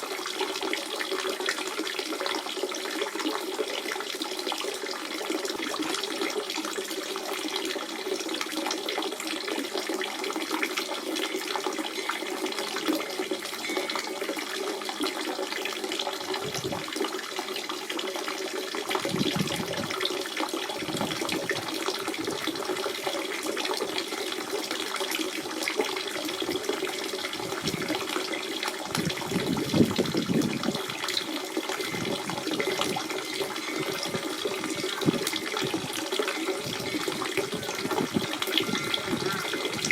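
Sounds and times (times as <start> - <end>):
spring water trickling: 0.0 - 39.9
water gurgles: 0.0 - 39.9.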